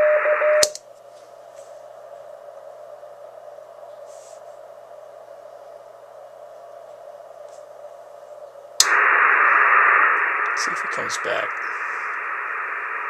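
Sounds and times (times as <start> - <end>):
filtered radio hiss: 0.0 - 13.0
radio receiver white noise: 1.6 - 13.0.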